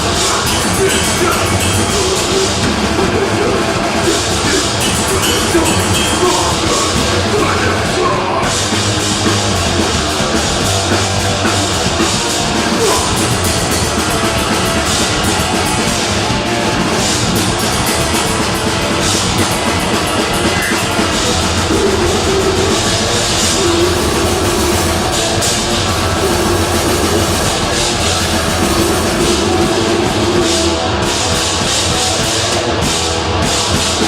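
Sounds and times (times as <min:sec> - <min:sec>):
distorted guitars: 0:00.0 - 0:34.0
fast dense drumming: 0:00.0 - 0:34.0.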